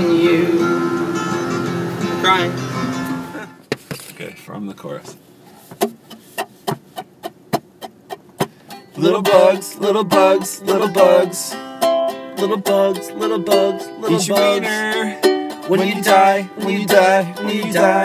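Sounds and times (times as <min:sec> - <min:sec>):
acoustic string instrument strummed: 0:00.0 - 0:03.6, 0:05.8 - 0:18.0.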